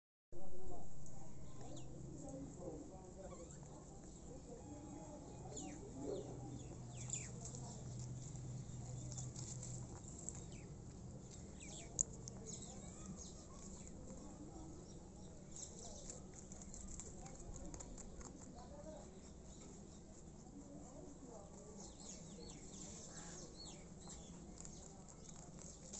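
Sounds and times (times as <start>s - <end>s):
outdoor ambience: 0.4s - 25.9s
small birds chirping: 1.4s - 25.9s.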